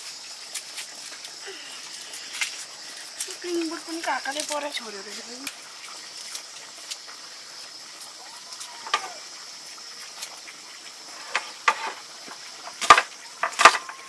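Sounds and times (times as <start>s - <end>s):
faint high hiss: 0.0s - 14.0s.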